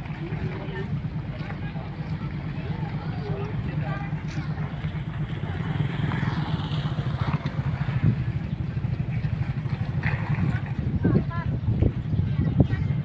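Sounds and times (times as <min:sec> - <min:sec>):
faint voices: 0:00.0 - 0:13.0
large engine droning: 0:00.0 - 0:13.0.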